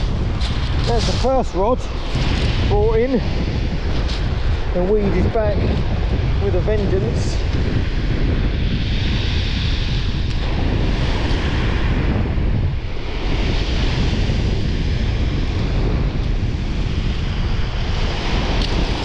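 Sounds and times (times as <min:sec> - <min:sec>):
surf washing in: 0:00.0 - 0:19.0
wind buffeting microphone: 0:00.0 - 0:19.0.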